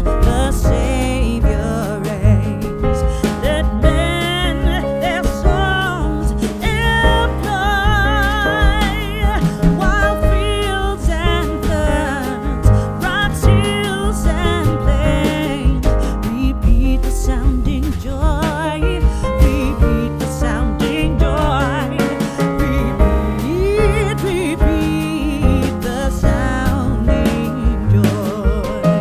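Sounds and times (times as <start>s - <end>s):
band with steady beat: 0.0s - 29.0s
person singing with vibrato: 0.0s - 29.0s.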